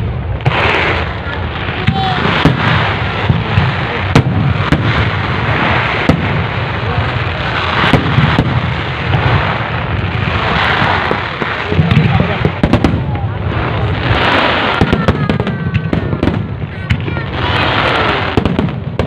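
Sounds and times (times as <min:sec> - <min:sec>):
continuous rumble: 0:00.0 - 0:19.0
fireworks bangs and crackles: 0:00.0 - 0:19.0
crowd murmuring: 0:00.2 - 0:19.0.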